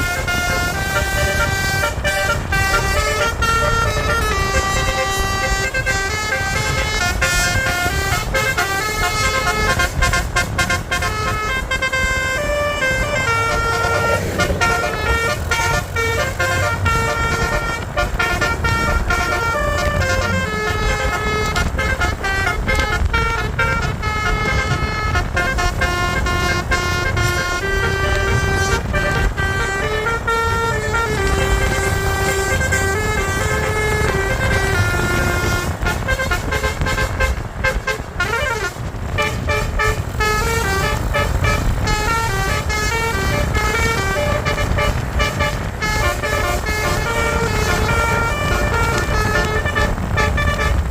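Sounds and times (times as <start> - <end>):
bus engines rumbling: 0.0 - 50.9
multi-tone bus horns tooting: 0.0 - 50.9
road noise: 0.0 - 50.9.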